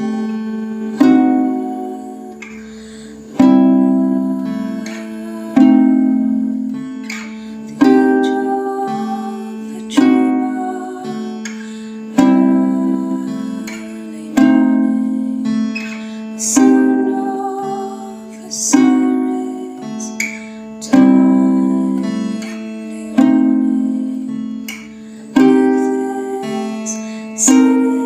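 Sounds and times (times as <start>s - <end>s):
acoustic guitar chords strummed: 0.0s - 28.0s.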